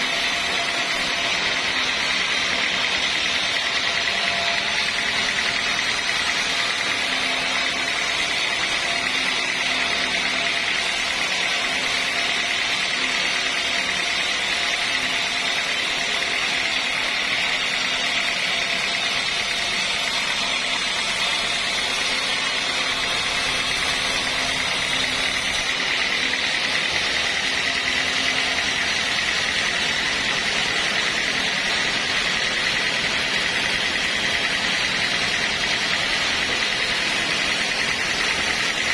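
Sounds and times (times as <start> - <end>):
high machine whine: 0.0 - 38.9
sawmill machinery droning: 0.0 - 38.9.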